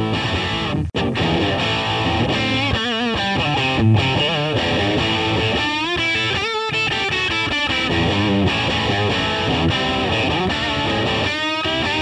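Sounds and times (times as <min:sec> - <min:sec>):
electric guitar lead phrases: 0:00.0 - 0:12.0.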